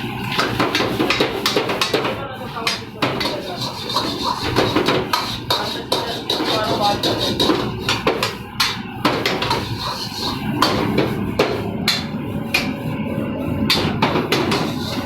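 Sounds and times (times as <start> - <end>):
steady background hum: 0.0 - 15.0
kitchen knocks and clatters: 0.2 - 12.7, 13.7 - 15.0.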